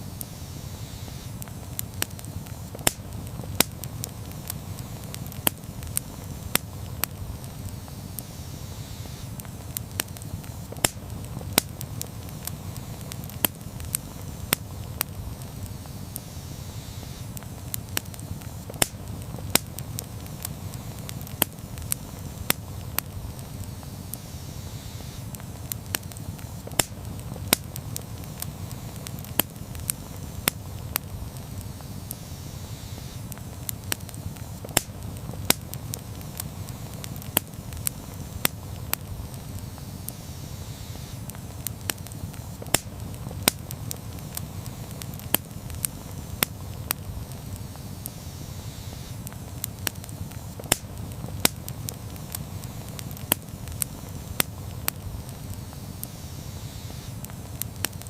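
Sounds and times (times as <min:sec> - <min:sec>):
campfire flames rumbling: 0:00.0 - 0:58.0
wood popping and crackling: 0:01.2 - 0:08.4, 0:09.0 - 0:16.3, 0:17.0 - 0:48.2, 0:49.0 - 0:58.0.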